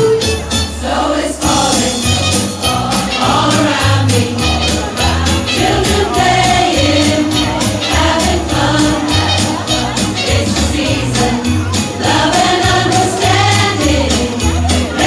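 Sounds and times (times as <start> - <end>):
mixed choir singing a carol: 0.0 - 15.0.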